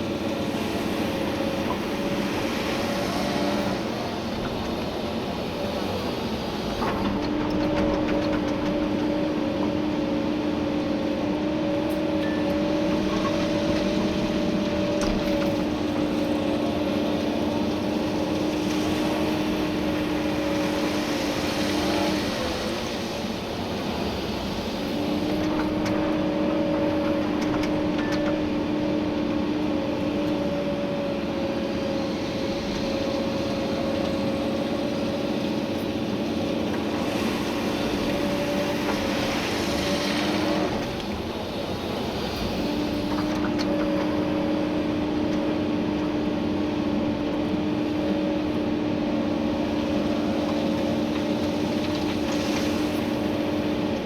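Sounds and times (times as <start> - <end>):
excavator diesel engine: 0.0 - 54.0
hydraulic whine: 0.0 - 54.0.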